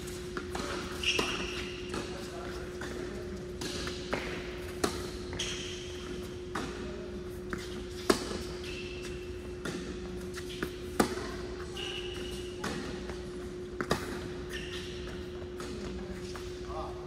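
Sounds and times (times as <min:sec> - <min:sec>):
sneakers squeaking on court: 0:00.0 - 0:17.0
racquet striking ball: 0:00.3 - 0:06.9, 0:07.6 - 0:15.9.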